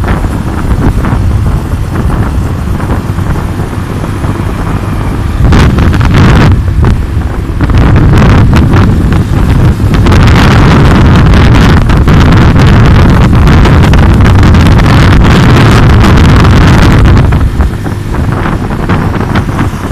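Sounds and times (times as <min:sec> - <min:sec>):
motorcycle engine and road noise: 0:00.0 - 0:19.9
wind buffeting microphone: 0:00.0 - 0:19.9.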